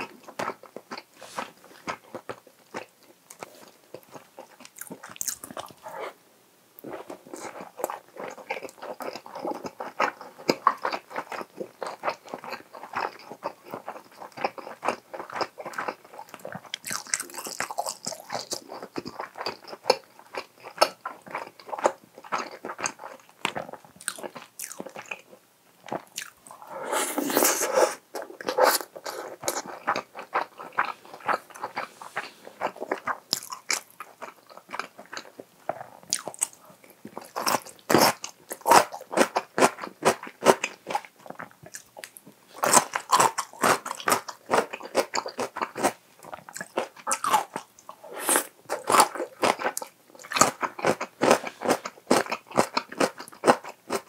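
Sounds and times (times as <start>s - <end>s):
close chewing with wet mouth clicks: 0.0s - 5.8s, 7.2s - 26.6s, 28.1s - 54.0s.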